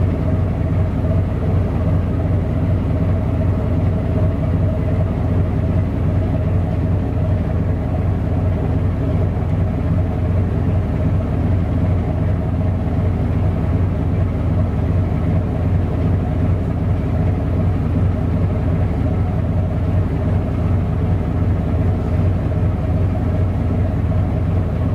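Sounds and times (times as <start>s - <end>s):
ship diesel engine droning: 0.0s - 24.9s.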